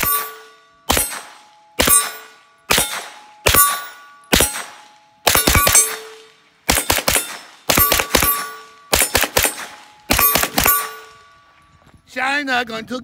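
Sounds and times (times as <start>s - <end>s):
gunshots: 0.0s - 11.3s
bullets ringing on steel targets: 0.0s - 11.9s.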